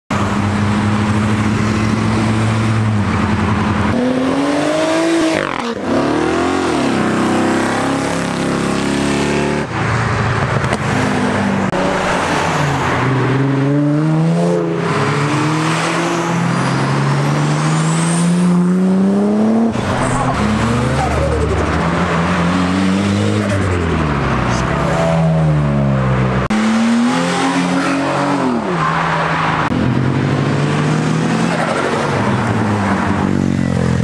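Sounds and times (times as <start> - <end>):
loud car exhausts accelerating: 0.2 - 34.0.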